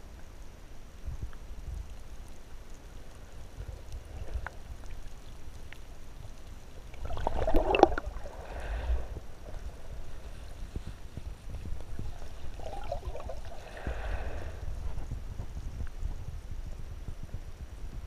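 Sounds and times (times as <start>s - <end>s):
crackling and bubbling: 0.0s - 18.0s
muffled underwater rumble: 0.0s - 18.0s.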